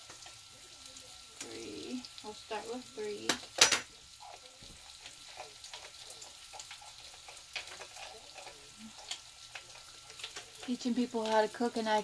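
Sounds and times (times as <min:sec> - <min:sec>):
fish sizzling in a pan: 0:00.0 - 0:12.0
oil popping and crackling: 0:00.0 - 0:12.0.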